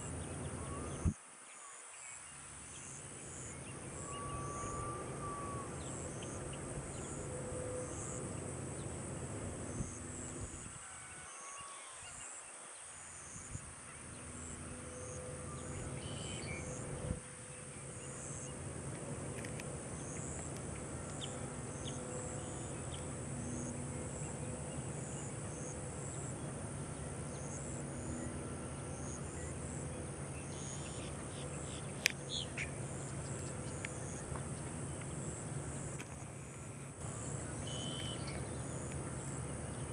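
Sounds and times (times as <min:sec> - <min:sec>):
insect chirps: 0:00.0 - 0:39.9
insects buzzing: 0:00.0 - 0:39.9
low rustling background noise: 0:00.0 - 0:39.9.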